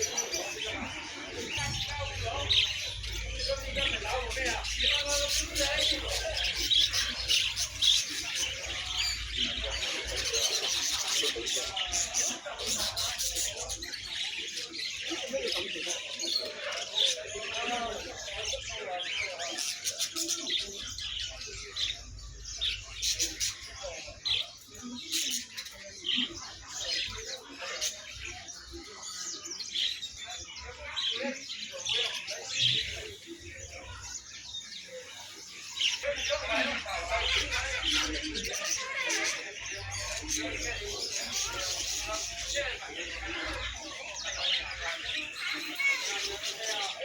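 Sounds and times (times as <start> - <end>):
faint background murmur: 0.0 - 47.0
people's voices: 0.0 - 47.0
songbirds chirping and squawking: 0.0 - 47.0.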